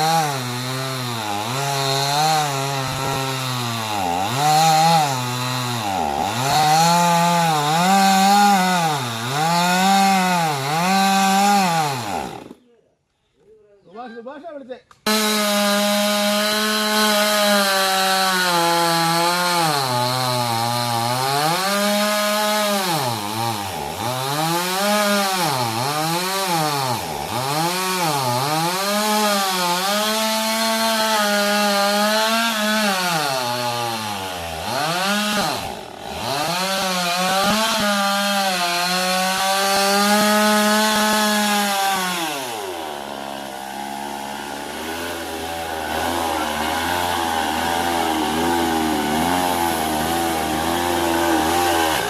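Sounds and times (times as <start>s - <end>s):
chainsaw cutting wood: 0.0s - 12.6s, 15.0s - 52.0s.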